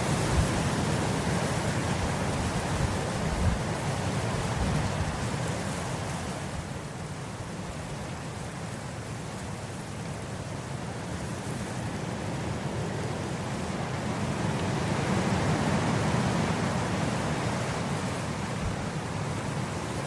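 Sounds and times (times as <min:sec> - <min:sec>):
wind blowing across grass: 0:00.0 - 0:20.0.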